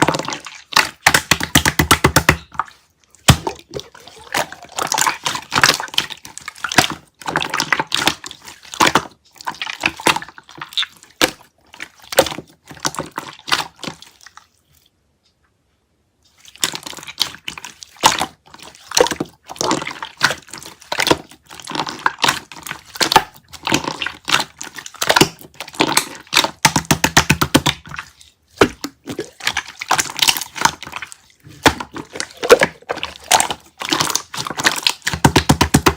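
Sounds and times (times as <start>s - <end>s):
slime squished by hand: 0.0s - 14.6s, 16.4s - 35.9s.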